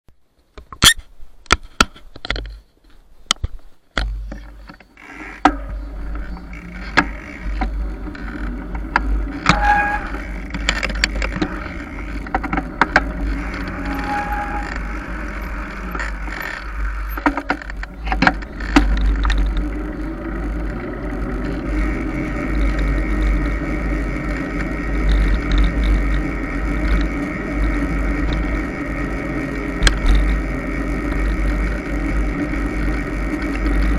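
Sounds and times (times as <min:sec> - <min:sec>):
bike tyre noise on dirt: 0:00.2 - 0:33.9
bike knocking and rattling: 0:00.6 - 0:33.9
wind rumbling on microphone: 0:05.6 - 0:33.9.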